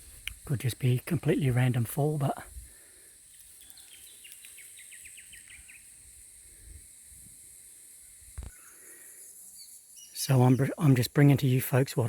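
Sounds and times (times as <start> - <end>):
high insect hiss: 0.0 - 12.0.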